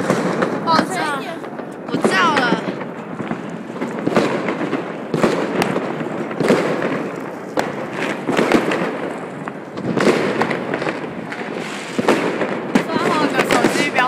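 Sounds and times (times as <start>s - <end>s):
firecrackers crackling: 0.0s - 14.0s
firework bangs: 0.0s - 14.0s.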